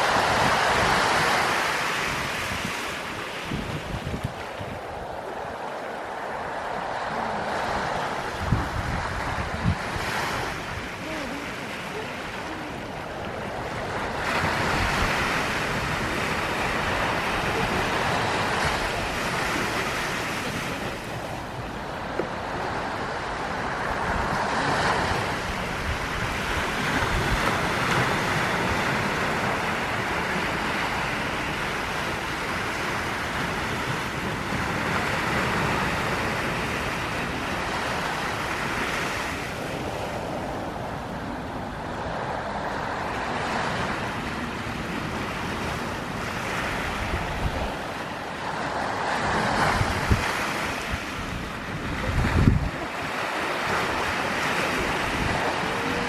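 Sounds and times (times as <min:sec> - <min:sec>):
ocean waves washing on beach: 0:00.0 - 0:56.0
wind buffeting microphone: 0:00.0 - 0:56.0.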